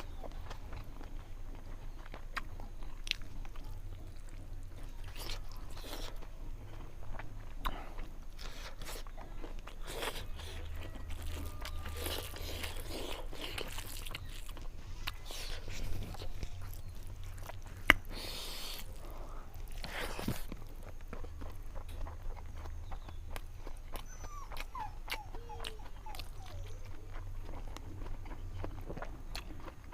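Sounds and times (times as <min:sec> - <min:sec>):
person chewing food: 0:00.0 - 0:29.9.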